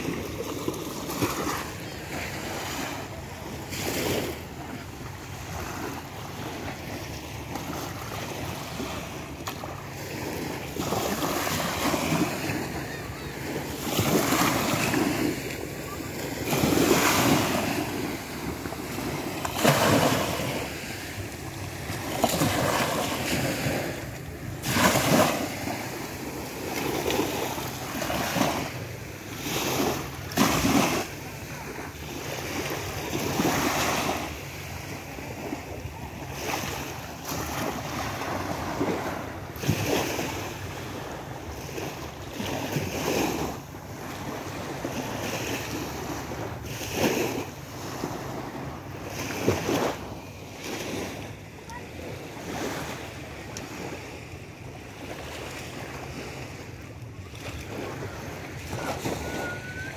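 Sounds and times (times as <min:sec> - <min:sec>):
small waves washing on sand: 0:00.0 - 0:59.9.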